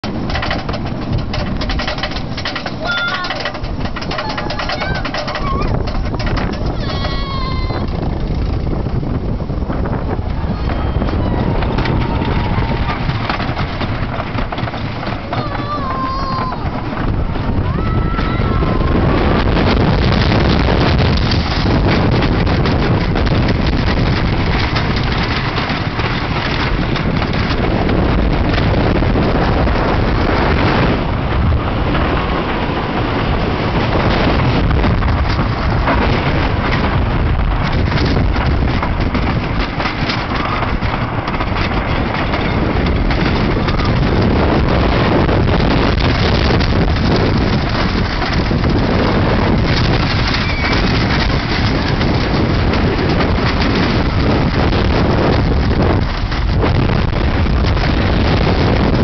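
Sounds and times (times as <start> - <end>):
roller coaster rumbling and rattling: 0.0 - 59.0
wind buffeting microphone: 0.0 - 59.0.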